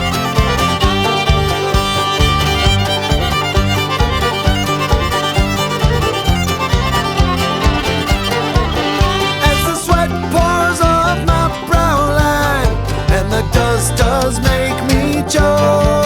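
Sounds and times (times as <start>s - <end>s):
band with a steady beat: 0.0s - 16.0s
fiddle leading: 0.0s - 16.0s.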